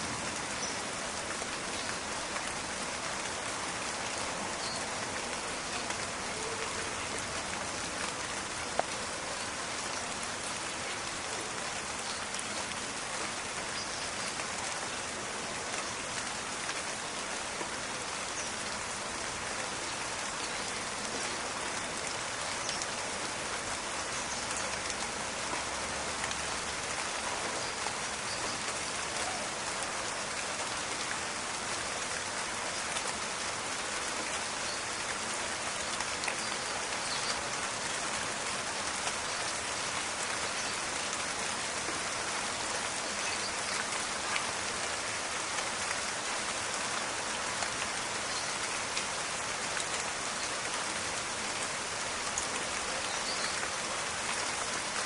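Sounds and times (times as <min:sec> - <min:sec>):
rain pattering in a forest: 0:00.0 - 0:55.0.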